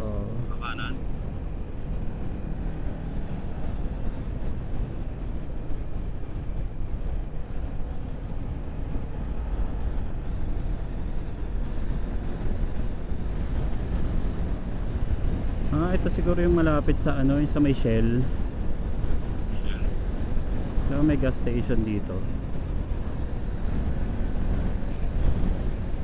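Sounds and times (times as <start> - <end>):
motorcycle engine hum: 0.0 - 26.0
wind and road noise: 0.0 - 26.0.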